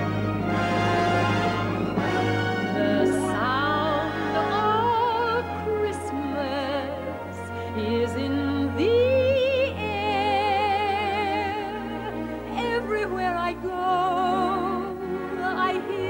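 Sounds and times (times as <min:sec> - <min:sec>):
slow orchestral music: 0:00.0 - 0:16.0.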